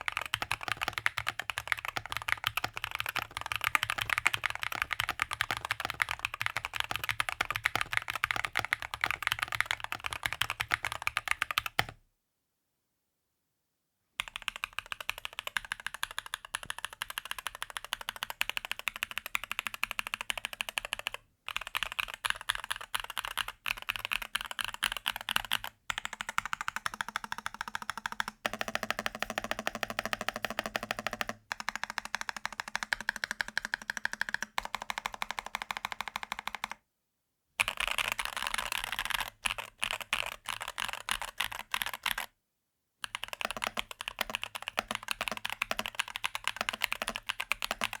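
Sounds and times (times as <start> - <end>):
mechanical keyboard typing: 0.0 - 12.0, 14.2 - 36.8, 37.6 - 42.3, 43.0 - 48.0.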